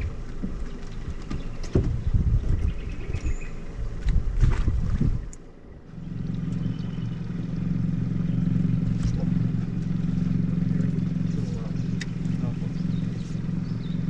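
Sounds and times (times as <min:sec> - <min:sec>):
boat motor humming: 0:00.0 - 0:14.0
wind buffeting microphone: 0:00.0 - 0:14.0.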